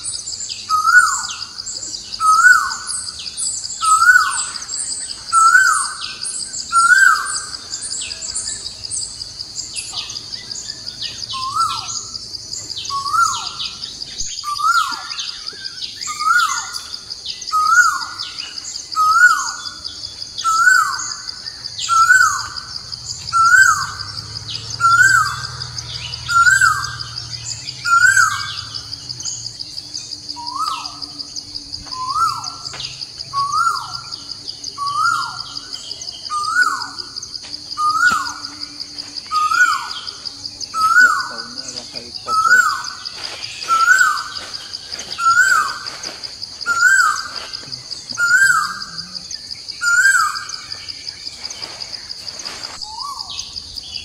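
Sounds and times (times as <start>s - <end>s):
high insect buzz: 0.0s - 54.0s
small birds chirping: 0.0s - 54.0s.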